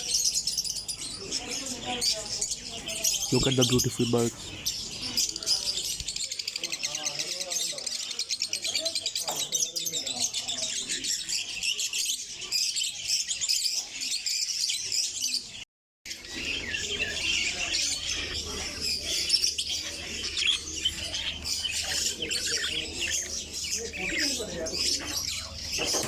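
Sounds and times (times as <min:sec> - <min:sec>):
caged birds chirping: 0:00.0 - 0:26.0.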